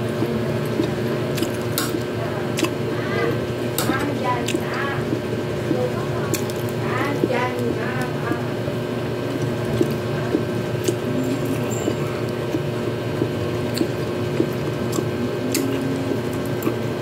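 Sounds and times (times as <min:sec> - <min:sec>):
wet chewing and squishing: 0:00.0 - 0:02.8, 0:03.8 - 0:17.0
steady hum: 0:00.0 - 0:17.0.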